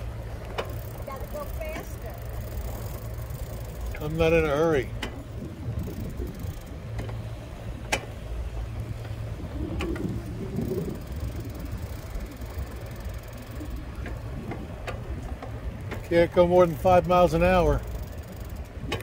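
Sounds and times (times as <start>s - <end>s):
small vehicle rolling on pavement: 0.0s - 19.0s.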